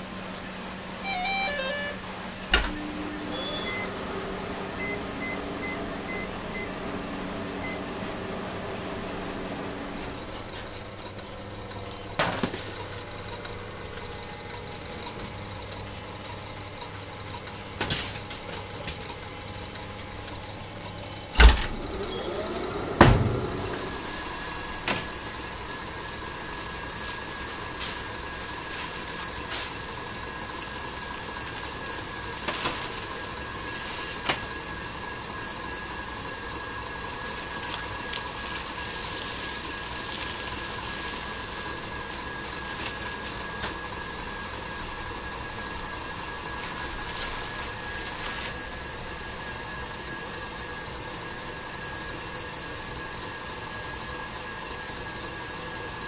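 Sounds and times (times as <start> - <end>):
bakery machinery hum: 0.0 - 56.0.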